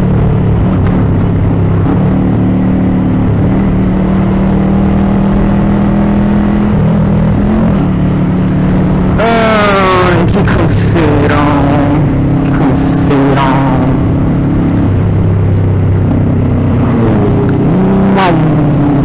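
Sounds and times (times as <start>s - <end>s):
motorcycle engine drone: 0.0s - 19.0s.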